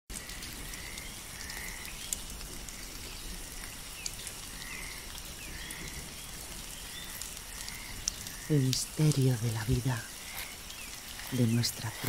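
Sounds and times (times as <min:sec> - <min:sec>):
drip-like clicks: 0:00.1 - 0:12.0
patter of falling water: 0:00.1 - 0:12.0.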